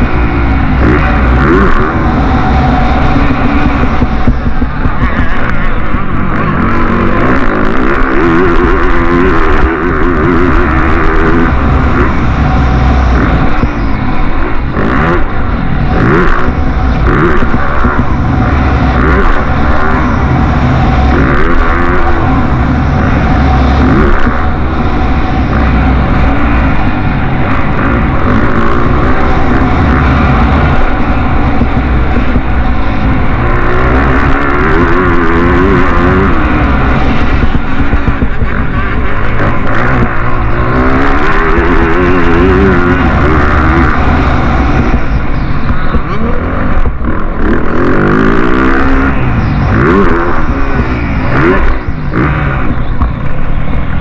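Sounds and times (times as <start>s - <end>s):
motocross engines revving: 0.0s - 54.0s.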